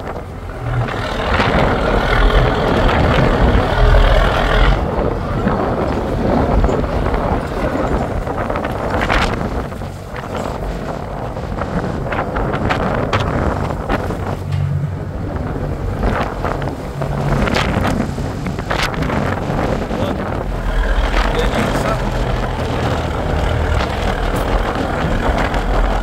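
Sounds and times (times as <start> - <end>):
low machinery rumble: 0.0 - 26.0
wind buffeting microphone: 0.0 - 26.0.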